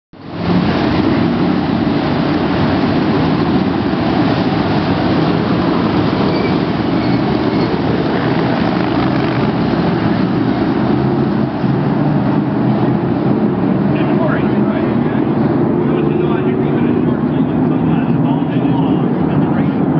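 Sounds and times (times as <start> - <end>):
race car engines running hard: 0.2 - 19.9.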